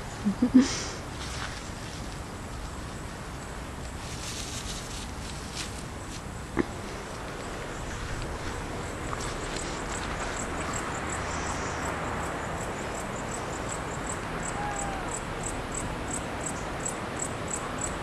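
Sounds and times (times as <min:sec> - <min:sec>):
background noise: 0:00.0 - 0:18.0
insect chirping: 0:00.0 - 0:18.0.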